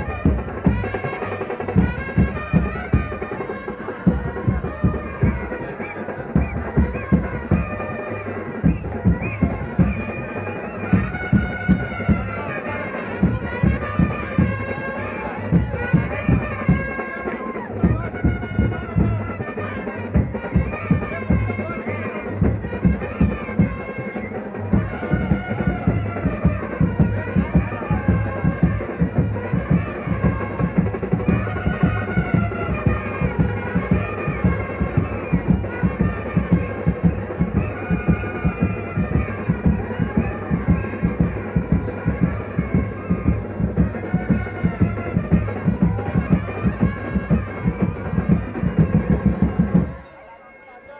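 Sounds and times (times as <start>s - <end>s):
fast drum beat: 0.0s - 50.0s
reedy amplified melody: 0.0s - 50.9s.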